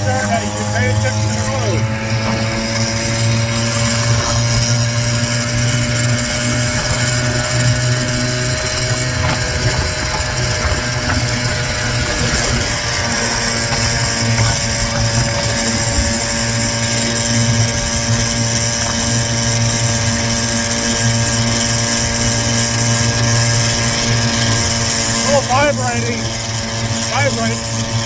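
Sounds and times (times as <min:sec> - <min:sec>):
scooter engine running: 0:00.0 - 0:28.0.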